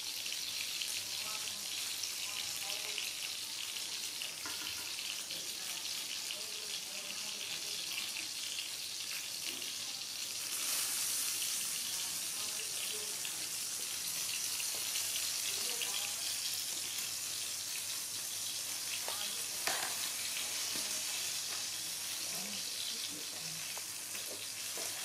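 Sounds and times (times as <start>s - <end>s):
fish frying in hot oil: 0.0s - 25.0s.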